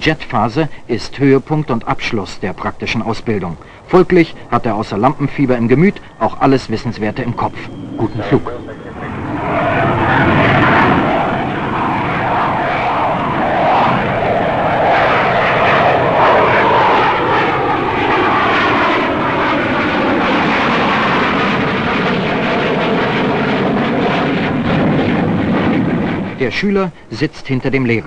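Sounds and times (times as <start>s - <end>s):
jet engine roaring with whine: 0.0s - 28.0s.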